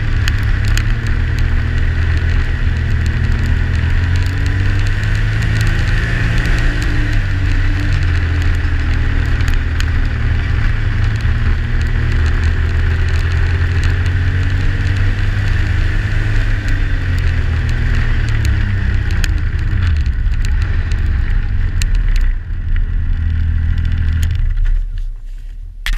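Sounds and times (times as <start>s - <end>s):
snowmobile engine running: 0.0s - 24.9s.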